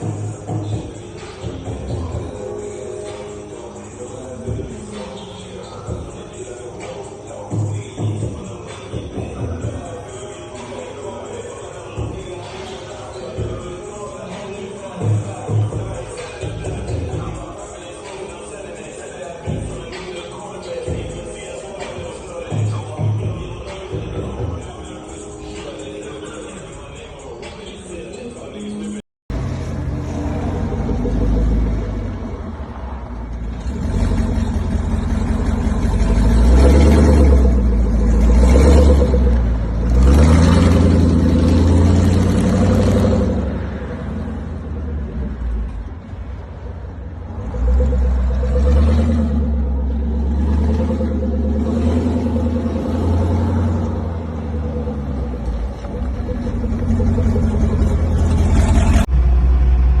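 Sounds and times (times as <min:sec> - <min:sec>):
car engine rumbling: 0:00.0 - 1:00.0.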